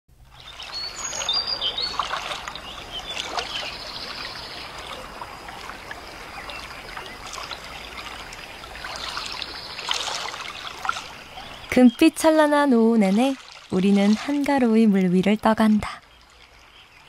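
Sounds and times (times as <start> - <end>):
water trickling and splashing: 0.1 - 17.0.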